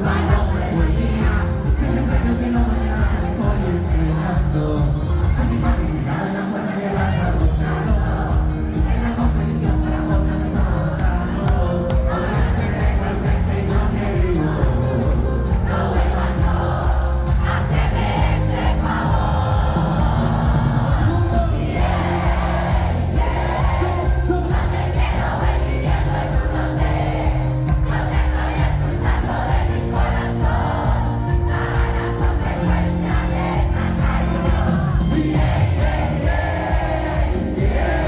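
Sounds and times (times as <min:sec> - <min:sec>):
crowd singing and cheering: 0:00.0 - 0:38.0
live band playing: 0:00.0 - 0:38.0
heavy bass line: 0:07.0 - 0:38.0.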